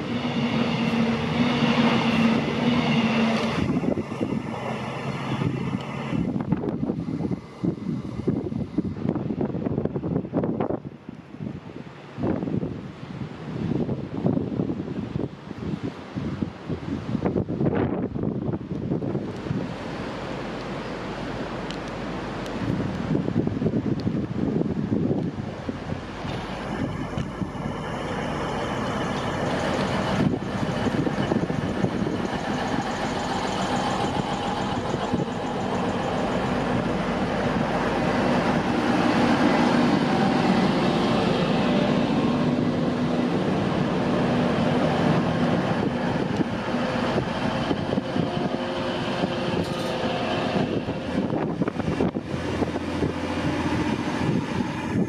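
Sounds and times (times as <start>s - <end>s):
wheel and rail noise: 0.0s - 11.3s, 17.2s - 55.0s
diesel train engine drone: 0.0s - 55.0s.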